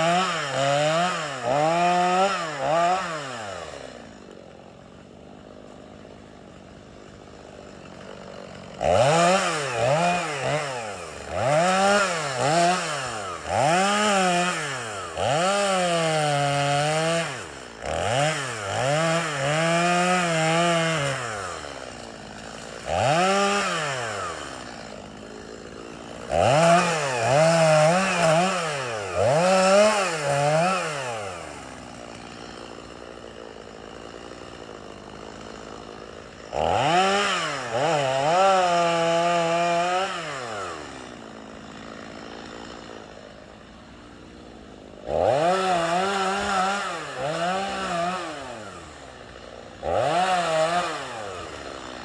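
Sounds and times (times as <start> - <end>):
chainsaw idling: 0.0 - 52.0
chainsaw revving: 0.0 - 52.0.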